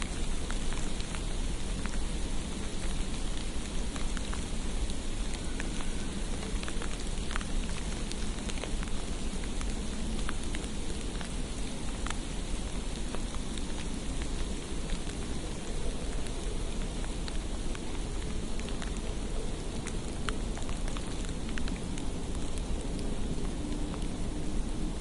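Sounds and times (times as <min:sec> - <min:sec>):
hiss of precipitation on street: 0:00.0 - 0:25.0
low steady rumble: 0:00.0 - 0:25.0.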